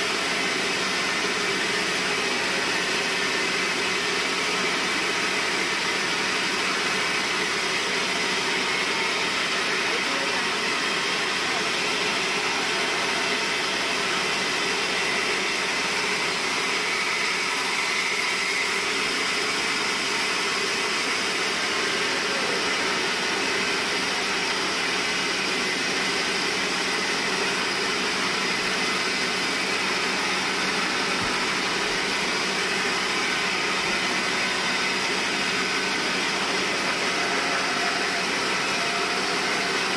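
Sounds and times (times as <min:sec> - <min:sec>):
band saw running: 0:00.0 - 0:39.9.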